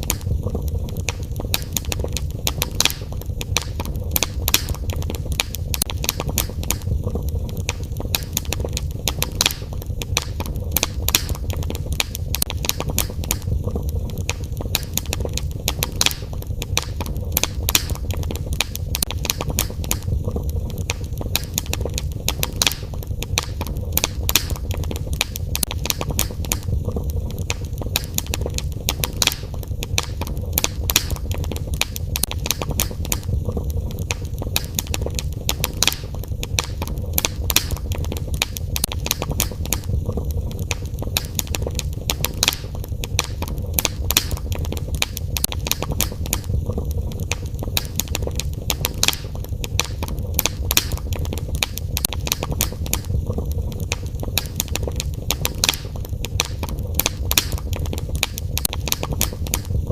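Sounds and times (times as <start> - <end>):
low fire rumble: 0.0 - 59.9
wood fire crackling and popping: 0.0 - 59.9.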